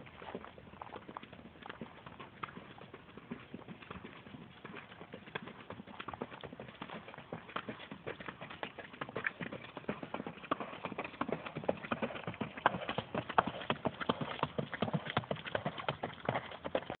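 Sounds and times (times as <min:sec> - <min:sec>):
horse hooves clip-clopping on dirt: 0:00.0 - 0:17.0.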